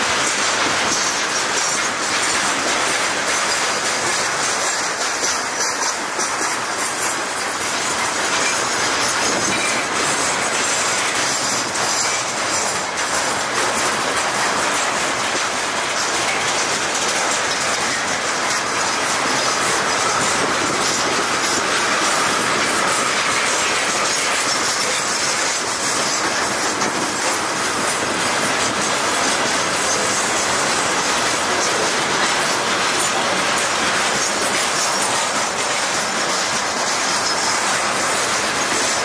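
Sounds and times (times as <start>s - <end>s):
train wheels clattering over rails: 0.0s - 39.0s.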